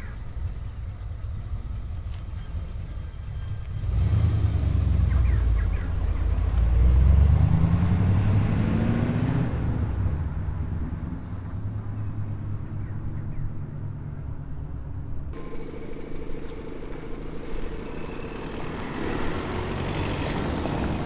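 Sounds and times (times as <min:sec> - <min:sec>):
car engine accelerating: 0:01.0 - 0:21.0.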